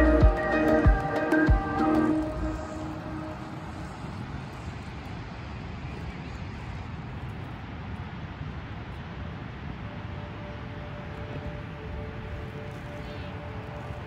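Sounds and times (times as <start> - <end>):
ocean surf rushing: 0.0 - 14.0
wind rumbling on microphone: 1.0 - 14.0.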